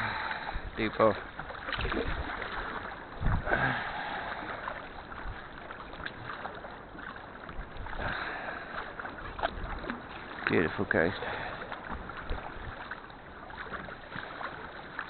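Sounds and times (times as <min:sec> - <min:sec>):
kayak paddle splashing water: 0:00.0 - 0:15.0
water lapping against hull: 0:00.0 - 0:15.0.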